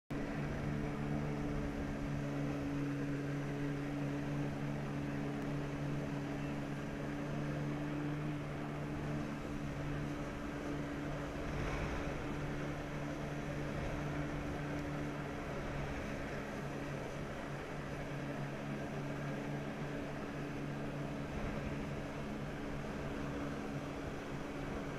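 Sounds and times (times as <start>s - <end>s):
jet ski engine running: 0.1s - 24.9s.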